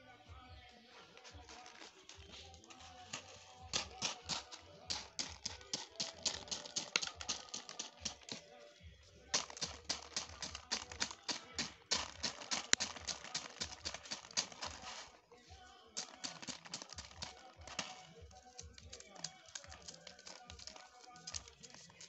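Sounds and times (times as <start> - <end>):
maize kernels clicking onto a tray: 1.4 - 8.5, 9.3 - 15.1, 15.9 - 22.0.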